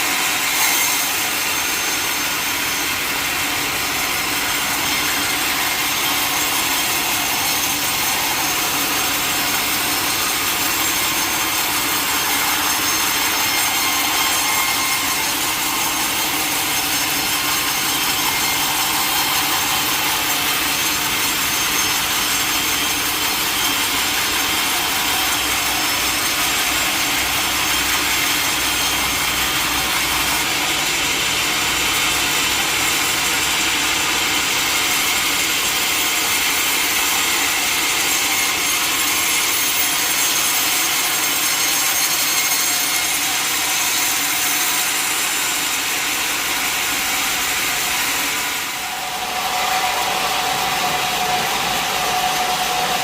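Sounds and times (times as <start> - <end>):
sawmill saw cutting log: 0.0 - 53.0.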